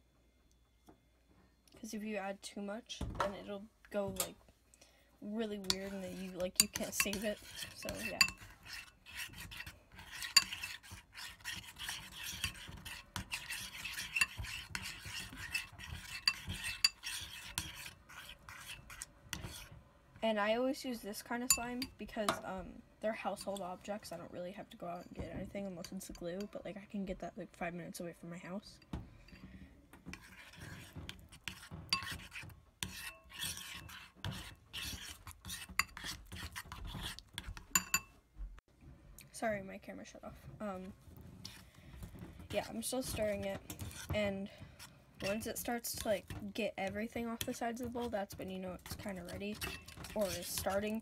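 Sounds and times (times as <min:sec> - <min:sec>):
spoon stirring sticky slime: 0:05.2 - 0:27.1, 0:29.3 - 0:38.1, 0:40.6 - 0:51.0.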